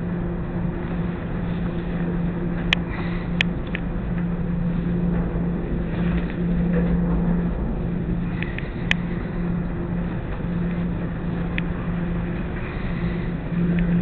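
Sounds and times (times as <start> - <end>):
dryers humming: 0.0 - 14.0.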